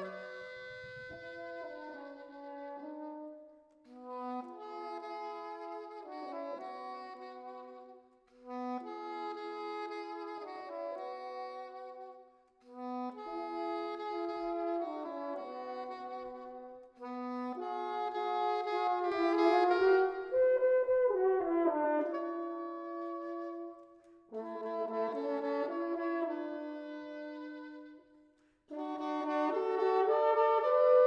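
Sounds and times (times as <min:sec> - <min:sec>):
french horn: 0:00.0 - 0:31.0
soprano saxophone: 0:00.0 - 0:31.0.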